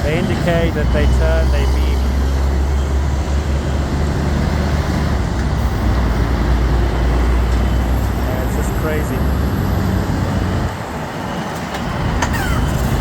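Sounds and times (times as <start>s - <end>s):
heavy road traffic: 0.0s - 13.0s
trucks passing close by: 0.0s - 13.0s.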